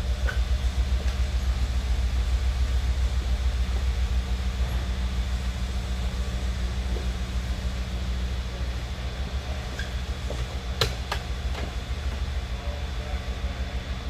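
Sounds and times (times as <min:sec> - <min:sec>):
machinery rumble and hum: 0:00.0 - 0:14.0.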